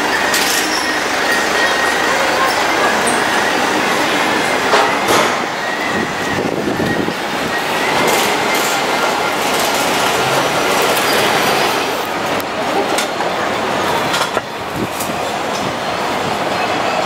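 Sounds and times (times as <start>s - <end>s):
street noise: 0.0s - 17.0s
train rumbling on tracks: 0.0s - 17.0s
wheels squealing: 0.0s - 17.0s.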